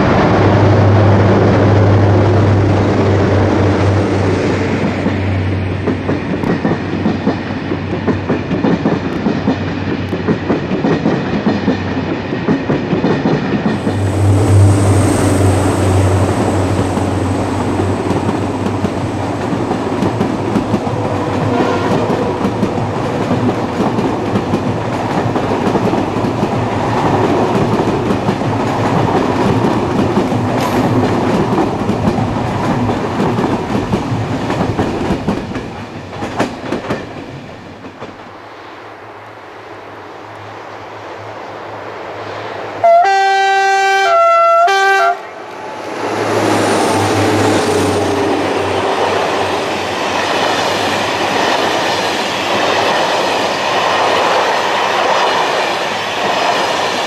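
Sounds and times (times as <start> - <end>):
train wheels clattering on track: 0.0 - 38.4, 45.5 - 57.0.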